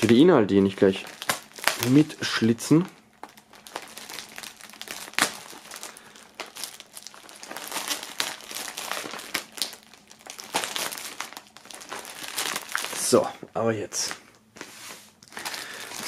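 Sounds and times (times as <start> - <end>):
plastic bag crinkling: 0.0 - 13.4, 15.2 - 16.0.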